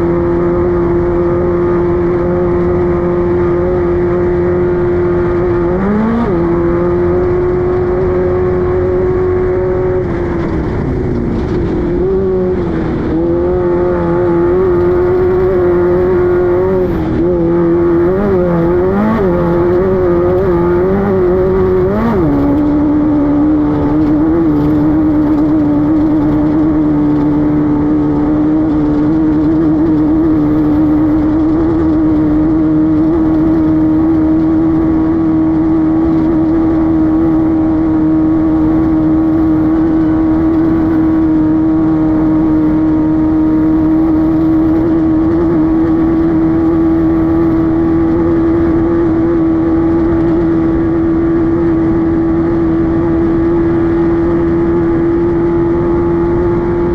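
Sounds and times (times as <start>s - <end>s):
race car engine running hard: 0.0s - 56.9s.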